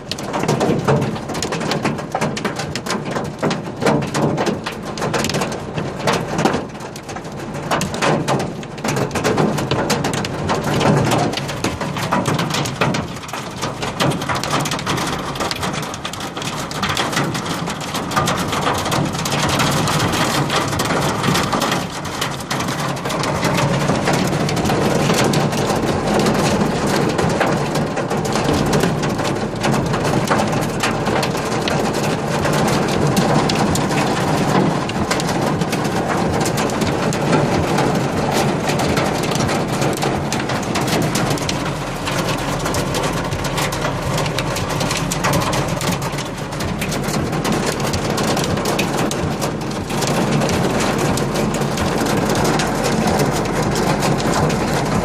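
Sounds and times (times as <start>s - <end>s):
hail and rain clattering: 0.0s - 55.0s.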